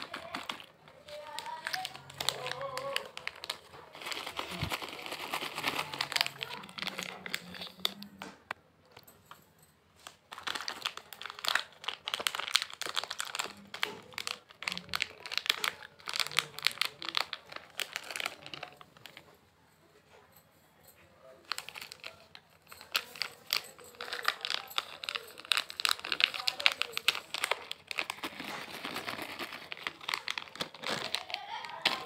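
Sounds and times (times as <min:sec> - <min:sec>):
plastic wrapper crinkling: 0:00.0 - 0:08.5, 0:10.0 - 0:19.4, 0:21.4 - 0:32.0.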